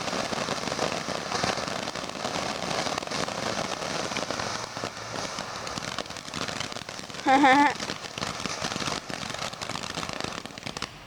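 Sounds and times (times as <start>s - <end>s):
firework crackling and hissing: 0.0s - 11.0s.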